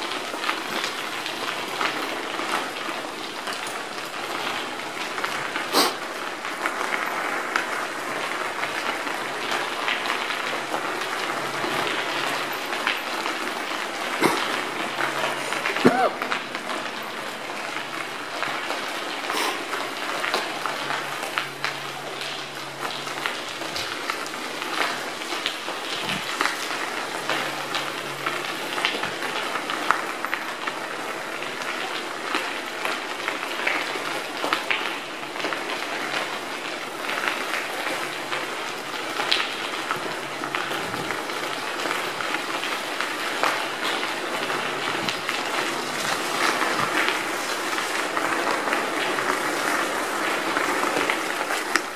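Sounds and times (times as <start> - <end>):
bicycle tyres crunching on gravel: 0.0 - 51.9
bike rattling: 0.0 - 51.9.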